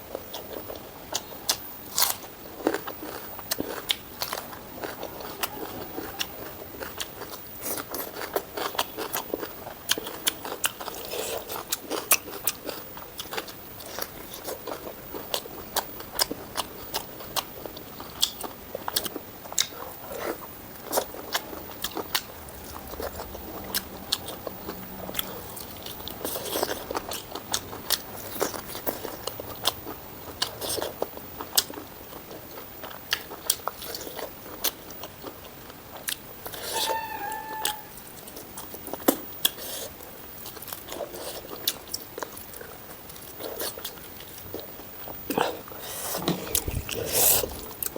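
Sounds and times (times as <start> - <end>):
person chewing and crunching: 0.0 - 36.8, 37.5 - 47.9.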